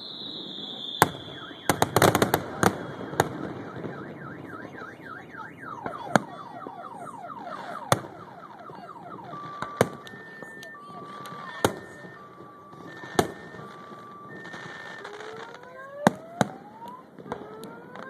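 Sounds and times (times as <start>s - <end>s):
car alarm wailing: 0.0s - 18.0s
fireworks bangs: 0.0s - 18.0s.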